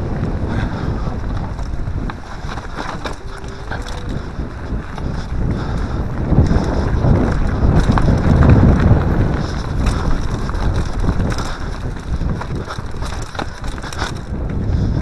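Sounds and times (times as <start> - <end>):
bike ticking and rattling: 0.0 - 15.0
tyres rumbling over dirt: 0.0 - 15.0
wind buffeting microphone: 0.0 - 15.0.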